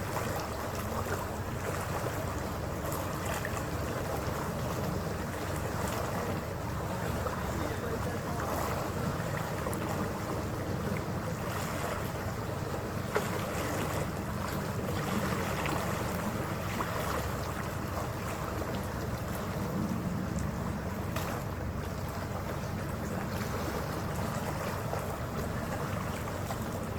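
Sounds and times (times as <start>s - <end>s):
ferry engine drone: 0.0s - 26.9s
water rushing along hull: 0.0s - 26.9s.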